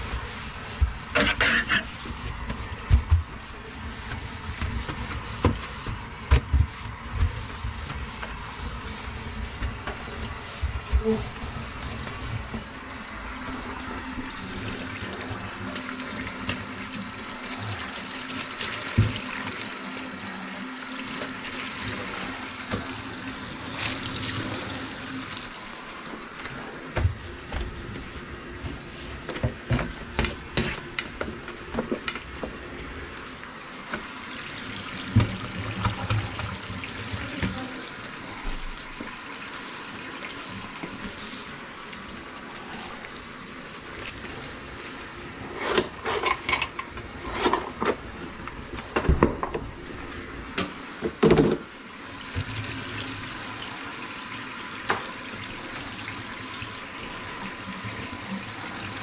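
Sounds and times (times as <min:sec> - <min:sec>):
water running into sink: 0:00.0 - 0:59.0.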